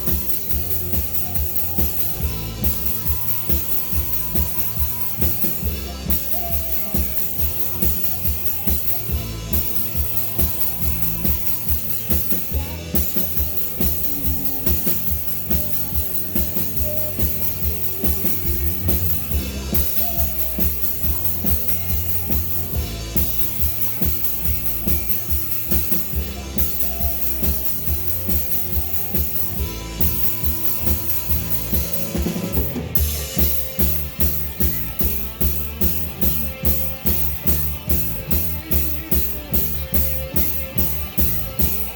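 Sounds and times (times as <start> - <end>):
drum kit beat: 0.0 - 41.9
live rock band playing: 0.0 - 41.9.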